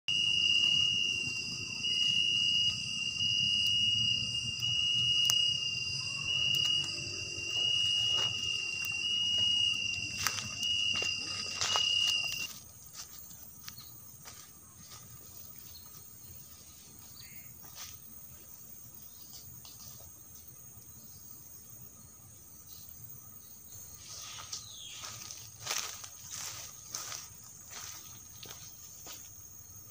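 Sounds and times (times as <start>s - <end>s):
insects trilling: 0.1s - 29.9s.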